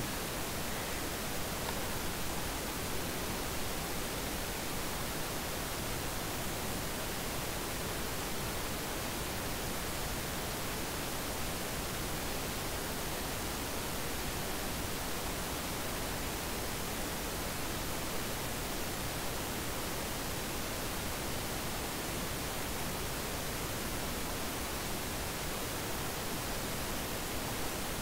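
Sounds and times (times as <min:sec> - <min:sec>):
microphone hiss: 0:00.0 - 0:28.0.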